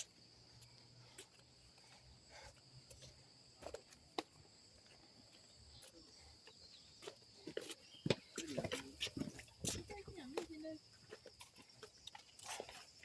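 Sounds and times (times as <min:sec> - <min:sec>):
crickets trilling: 0:00.0 - 0:13.0
soft footsteps on street: 0:00.0 - 0:13.0.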